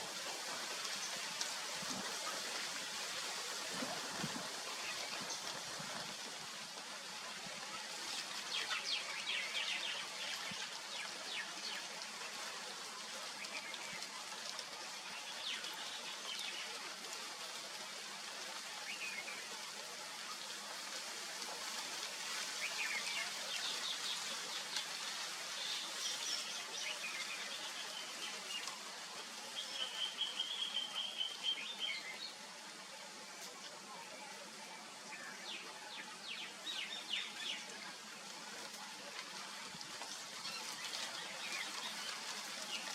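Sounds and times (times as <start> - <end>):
steady outdoor hiss: 0.0 - 42.9.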